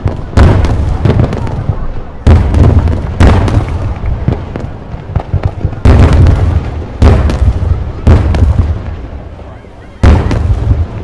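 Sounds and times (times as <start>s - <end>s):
fireworks booming: 0.0s - 11.0s
fireworks cracking: 0.0s - 11.0s.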